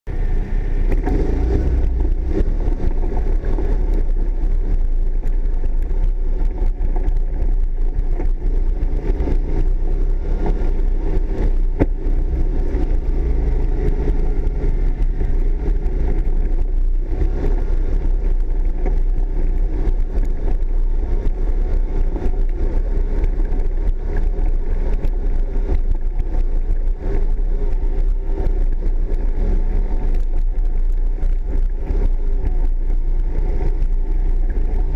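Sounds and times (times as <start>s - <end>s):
atv engine running: 0.1s - 34.9s.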